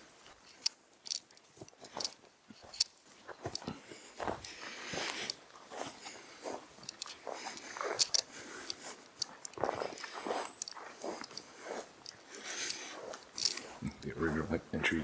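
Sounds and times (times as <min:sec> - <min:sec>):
crunching and rustling: 0:00.1 - 0:14.2.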